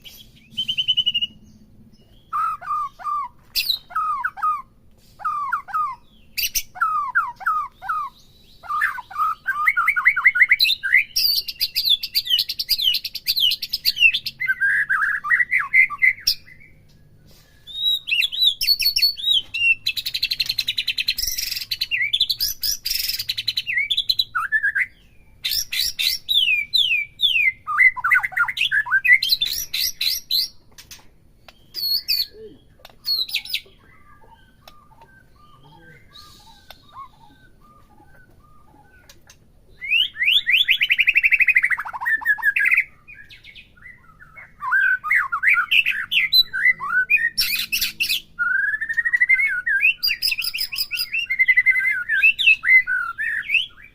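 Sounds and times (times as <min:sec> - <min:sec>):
bird singing whistles and trills: 0:00.0 - 0:53.9.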